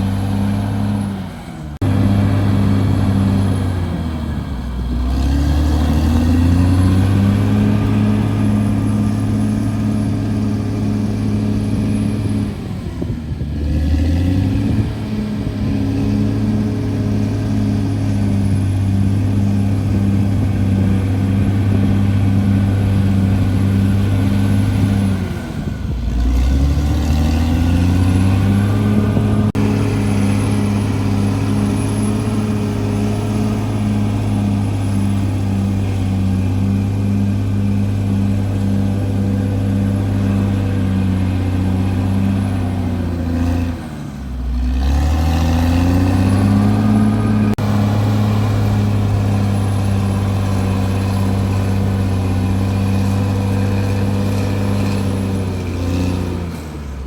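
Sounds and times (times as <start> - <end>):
bulldozer diesel engine revving: 0.0 - 57.0.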